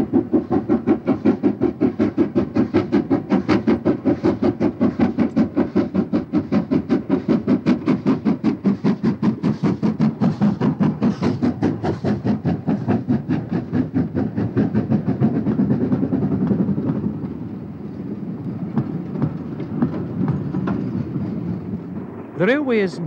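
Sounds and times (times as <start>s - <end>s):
wheels clicking over rail joints: 0.0s - 21.8s
steam locomotive exhaust beats: 0.0s - 23.0s.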